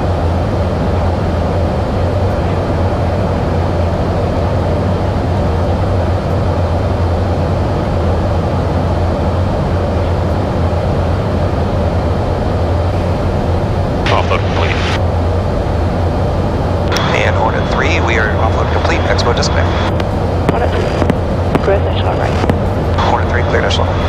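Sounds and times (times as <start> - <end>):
jet aircraft cabin drone: 0.0 - 24.0.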